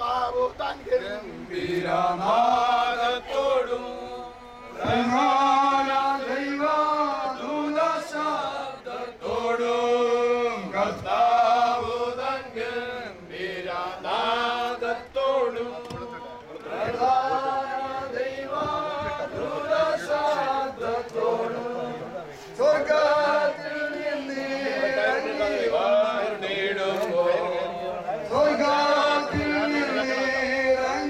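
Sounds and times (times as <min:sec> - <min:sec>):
mourners singing a slow hymn: 0:00.0 - 0:31.0.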